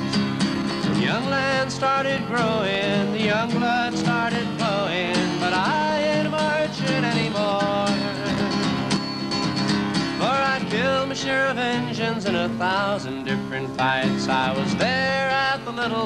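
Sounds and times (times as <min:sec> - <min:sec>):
man singing folk song: 0:00.0 - 0:16.0
strummed acoustic guitar: 0:00.0 - 0:16.0.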